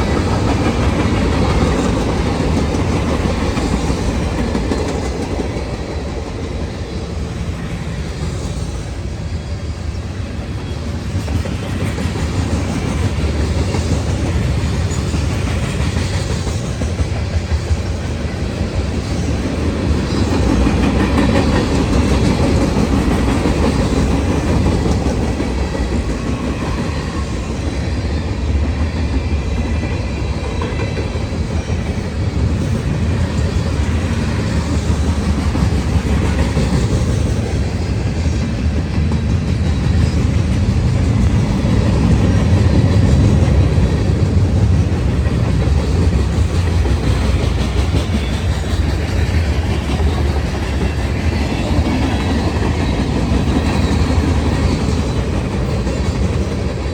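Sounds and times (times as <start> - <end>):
freight train rumbling past: 0.0 - 56.9.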